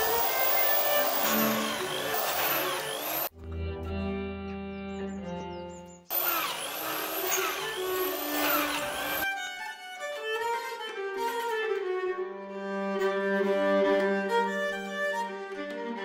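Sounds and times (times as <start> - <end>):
bowed strings music: 0.0 - 16.0.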